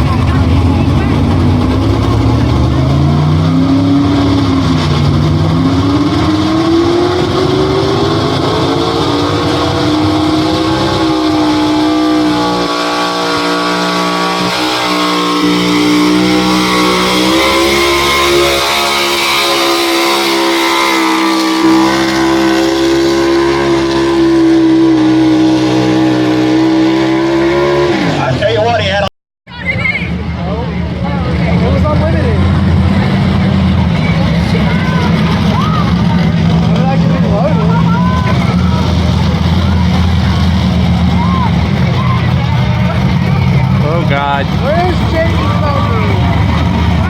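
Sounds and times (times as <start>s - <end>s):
truck engine under full load: 0.0s - 47.0s.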